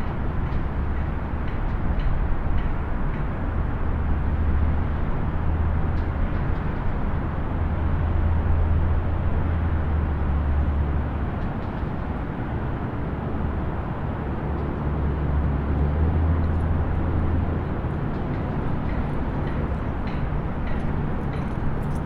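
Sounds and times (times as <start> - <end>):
distant highway traffic: 0.0 - 22.0
heavy vehicles rumbling: 0.0 - 22.0.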